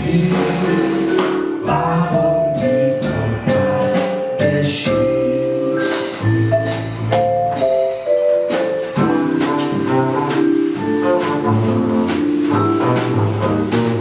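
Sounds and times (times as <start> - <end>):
double bass: 0.0 - 14.0
drums: 0.0 - 14.0
vibraphone: 0.1 - 14.0.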